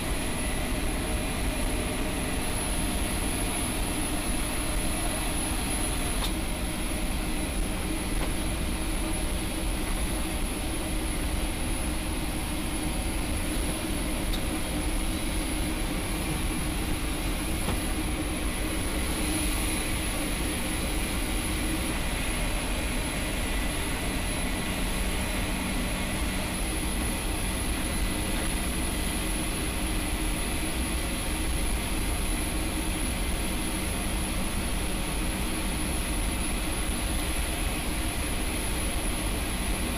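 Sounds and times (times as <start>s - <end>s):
high steady engine whine: 0.0s - 39.9s
turboprop engines droning: 0.0s - 39.9s.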